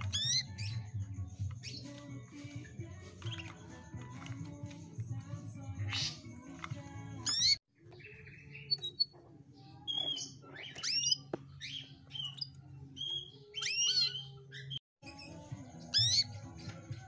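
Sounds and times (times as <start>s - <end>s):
canary chirping and whistling: 0.0s - 4.9s, 5.6s - 17.0s.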